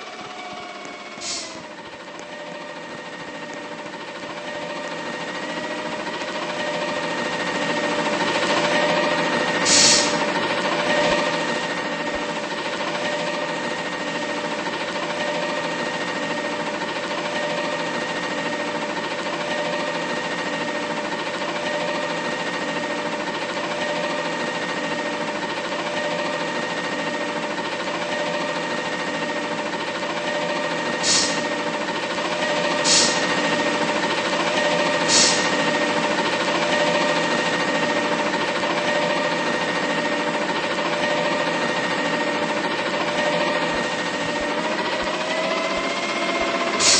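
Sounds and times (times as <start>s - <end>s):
constant whine: 0.0s - 46.9s
garbage truck diesel drone: 0.0s - 46.9s.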